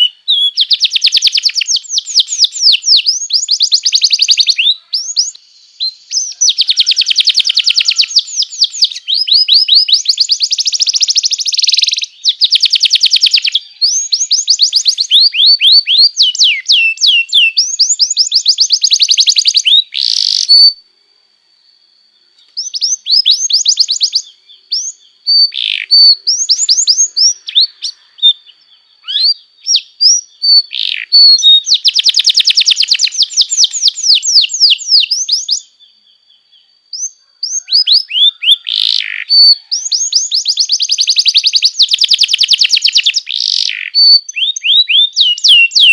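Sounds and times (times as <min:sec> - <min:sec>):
canary singing trills: 0:00.0 - 0:20.8, 0:21.6 - 0:45.9.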